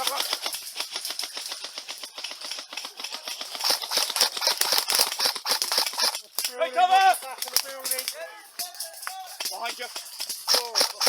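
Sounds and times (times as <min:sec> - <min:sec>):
airsoft guns firing rapidly: 0:00.0 - 0:11.0.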